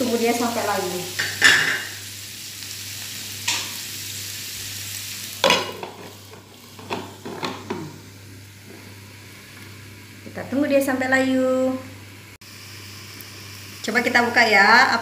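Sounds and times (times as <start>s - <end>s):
cabbage sizzling in a frying pan: 0.0s - 15.0s.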